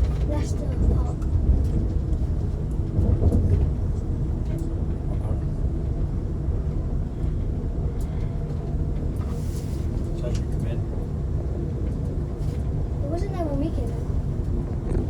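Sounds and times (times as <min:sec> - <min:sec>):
vehicle rumble from inside: 0:00.0 - 0:15.0.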